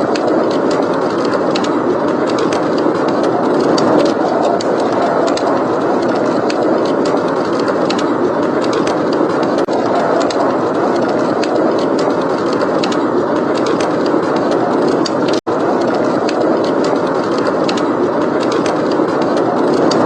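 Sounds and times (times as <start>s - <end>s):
loud blizzard wind: 0.0s - 20.0s
wood fire crackling: 0.0s - 20.0s.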